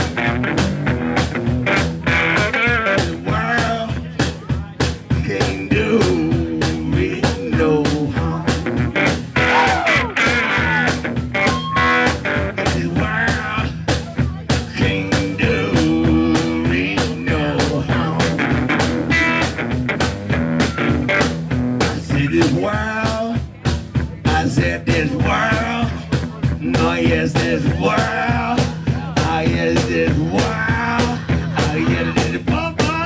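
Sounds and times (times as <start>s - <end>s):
drum kit beat: 0.0s - 33.0s
electric guitar: 0.0s - 33.0s.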